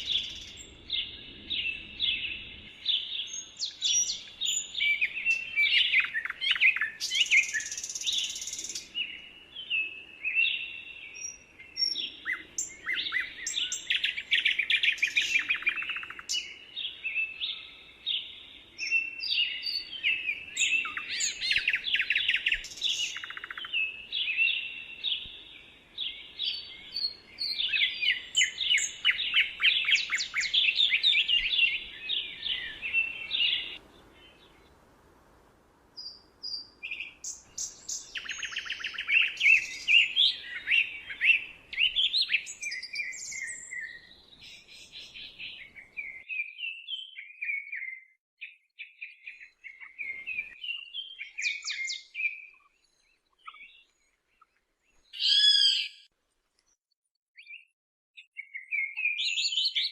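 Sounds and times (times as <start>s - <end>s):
songbirds singing in chorus: 0.0s - 56.1s, 57.4s - 59.9s.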